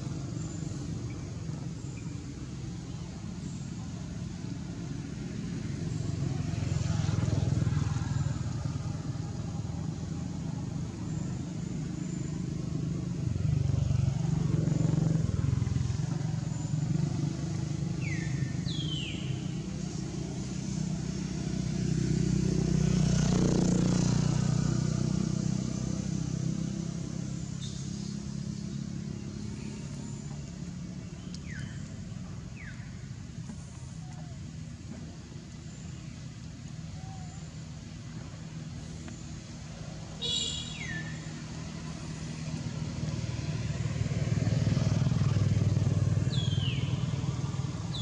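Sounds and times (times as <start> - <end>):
motor vehicles passing by: 0.0 - 48.0.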